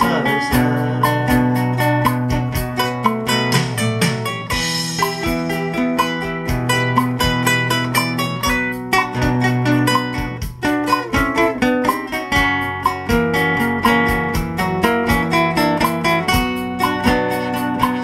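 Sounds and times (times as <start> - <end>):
acoustic guitars playing: 0.0 - 18.0
steady clicking beat: 0.0 - 18.0.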